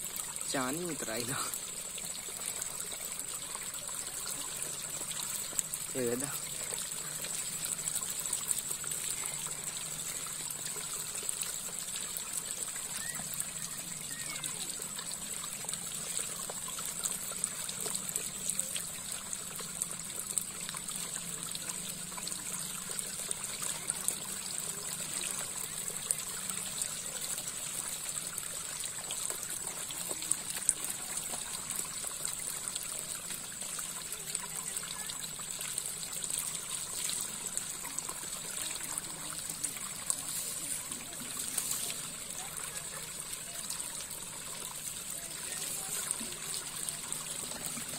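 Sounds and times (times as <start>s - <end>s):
shallow water trickling: 0.0s - 47.9s.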